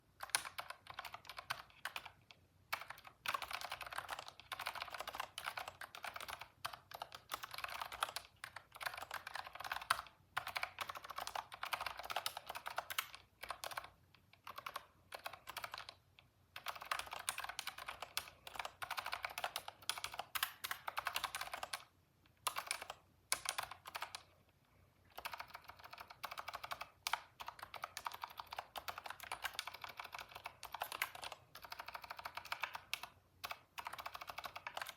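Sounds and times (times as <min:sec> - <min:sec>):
typing on computer keyboard: 0:00.1 - 0:24.4, 0:25.1 - 0:34.9.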